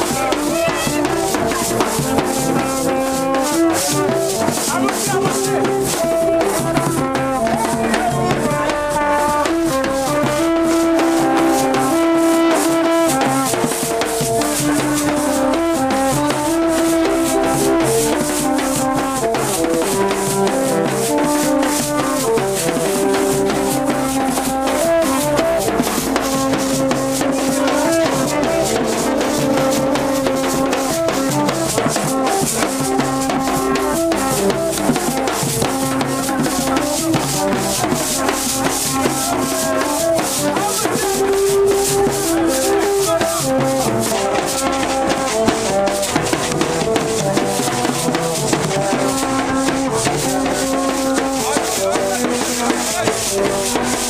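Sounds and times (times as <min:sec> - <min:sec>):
hand drums: 0:00.0 - 0:54.0
tube horns playing held notes: 0:00.0 - 0:54.0.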